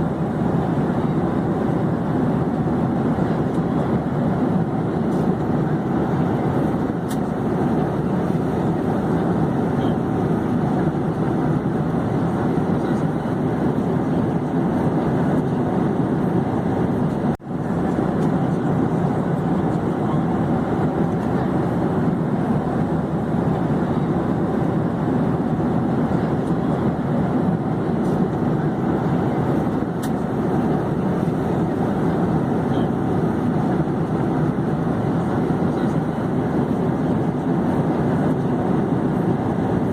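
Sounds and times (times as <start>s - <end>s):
airplane engine and airflow rush: 0.0s - 39.9s.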